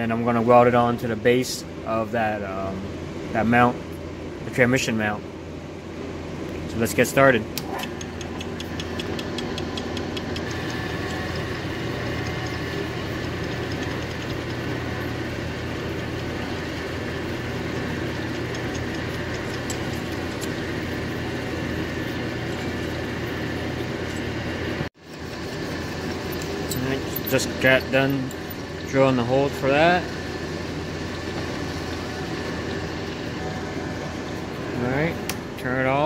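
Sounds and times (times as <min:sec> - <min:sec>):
lathe motor and gear hum: 0:00.0 - 0:36.0.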